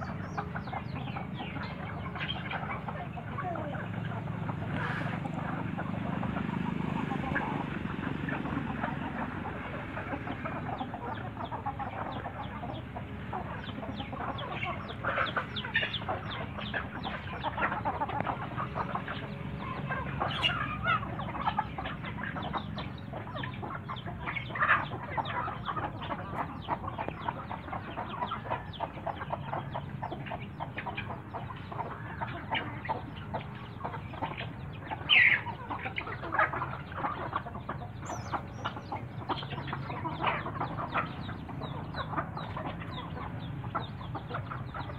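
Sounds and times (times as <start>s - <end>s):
chickens clucking: 0.0s - 44.9s
loud chicken calls: 0.0s - 44.9s.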